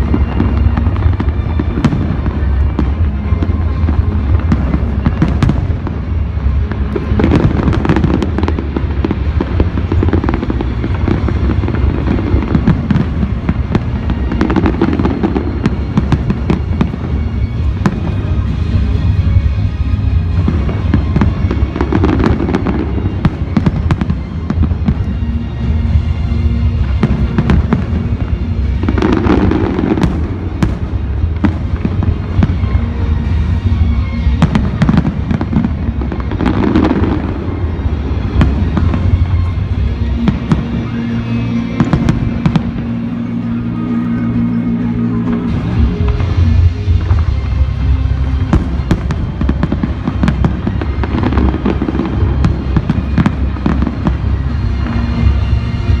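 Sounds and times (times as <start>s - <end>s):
fireworks bangs and crackling: 0.0s - 56.0s
music playing: 0.0s - 56.0s.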